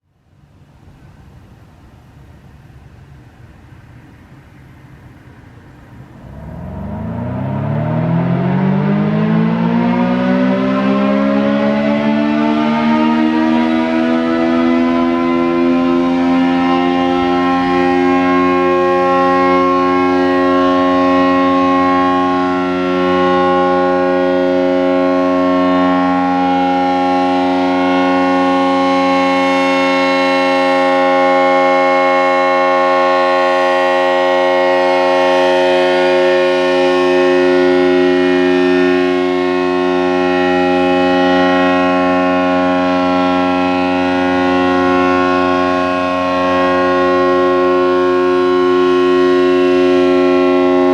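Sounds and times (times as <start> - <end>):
warning siren steady tone: 5.9 - 50.9.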